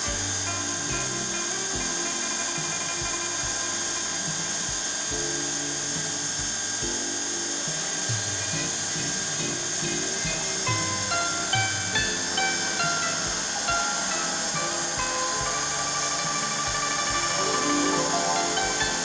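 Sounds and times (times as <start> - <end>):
background music with beat: 0.0 - 19.0
high-pitched hiss: 0.0 - 19.0.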